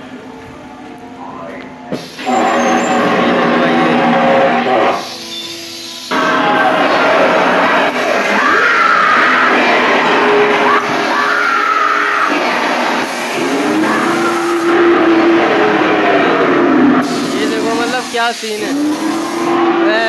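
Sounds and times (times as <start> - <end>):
eerie droning horror music: 0.0 - 20.0
wailing voices: 2.2 - 20.0.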